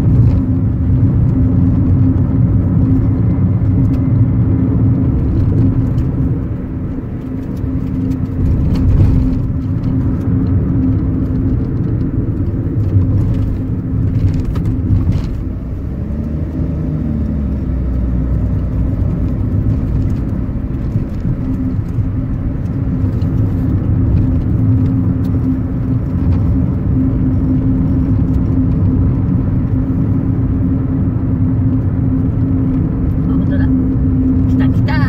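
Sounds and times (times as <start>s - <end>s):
car engine hum: 0.0s - 35.0s
tyres rumbling on road: 0.0s - 35.0s.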